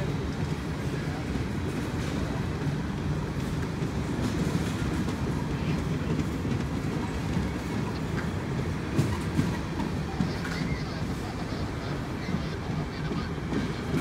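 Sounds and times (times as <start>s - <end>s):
train wheels rumbling on rails: 0.0s - 14.0s
wheels clacking over rail joints: 1.4s - 14.0s.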